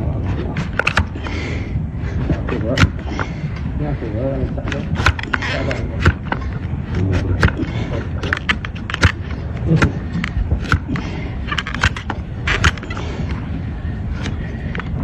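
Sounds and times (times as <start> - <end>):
sharp clicks and knocks: 0.0 - 1.6, 2.2 - 3.8, 4.4 - 13.5, 14.2 - 15.0
knife scraping hoof: 0.0 - 13.5.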